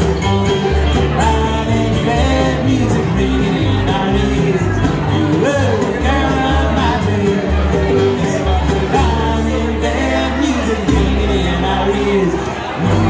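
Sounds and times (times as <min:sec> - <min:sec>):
acoustic guitar: 0:00.0 - 0:13.0
banjo: 0:00.0 - 0:13.0
mandolin: 0:00.0 - 0:13.0
upright bass: 0:00.0 - 0:13.0
voices singing: 0:00.0 - 0:13.0.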